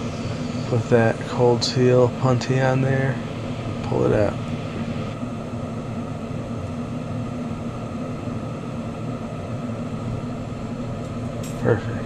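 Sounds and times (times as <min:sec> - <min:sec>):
low hum: 0:00.0 - 0:12.0
torch flame roaring: 0:00.0 - 0:12.0.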